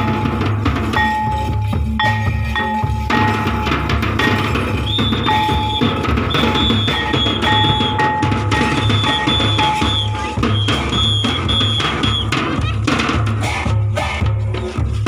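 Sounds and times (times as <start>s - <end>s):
high piping notes: 0.0s - 13.0s
barrel drums deep thuds: 0.0s - 13.2s.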